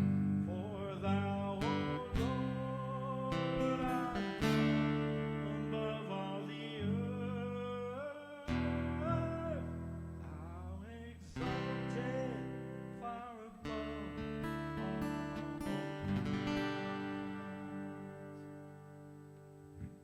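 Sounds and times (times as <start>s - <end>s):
person singing: 0.0s - 18.9s
acoustic guitar strumming chords: 0.0s - 20.0s.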